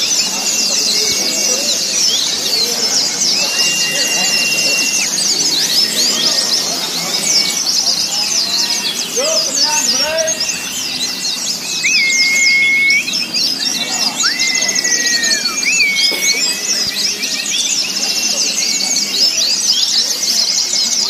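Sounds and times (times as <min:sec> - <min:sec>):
birds twittering chorus: 0:00.0 - 0:21.0
bird whistles: 0:00.7 - 0:08.8, 0:09.4 - 0:19.9.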